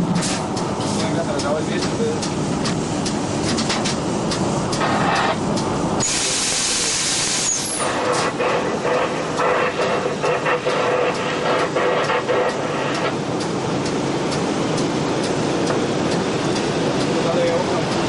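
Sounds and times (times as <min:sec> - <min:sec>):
train rumble: 0:00.0 - 0:18.0
loud rush of hiss: 0:00.2 - 0:18.0.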